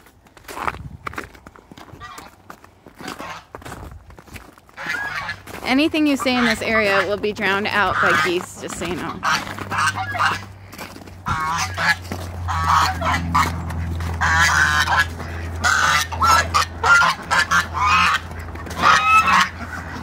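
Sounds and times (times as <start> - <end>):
geese honking: 2.0 - 3.6, 4.7 - 20.0.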